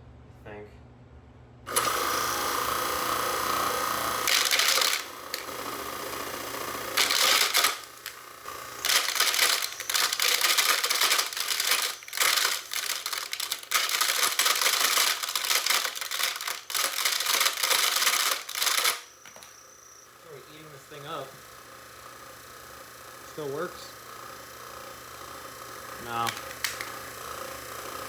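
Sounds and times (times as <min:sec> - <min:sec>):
garbage disposal grinding plastic: 0:01.7 - 0:28.0
motor hum: 0:01.7 - 0:28.0.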